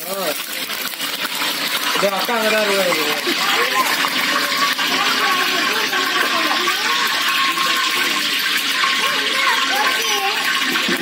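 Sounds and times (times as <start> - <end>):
stove flame hissing: 0.0 - 11.0
faint voices: 1.3 - 11.0.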